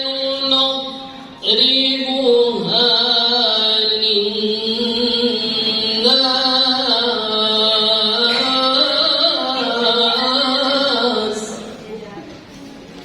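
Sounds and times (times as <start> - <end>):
man chanting melodically: 0.0 - 11.7.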